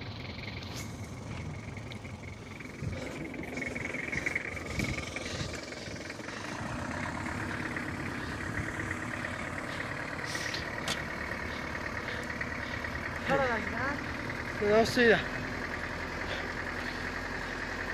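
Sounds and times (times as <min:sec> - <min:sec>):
truck engine running at low speed: 0:00.0 - 0:17.9.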